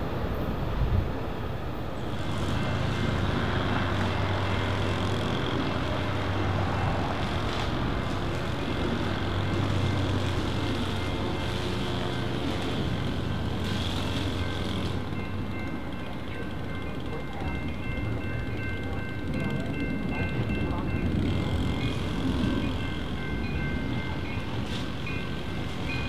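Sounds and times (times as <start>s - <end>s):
diesel train rolling by: 0.0s - 26.0s.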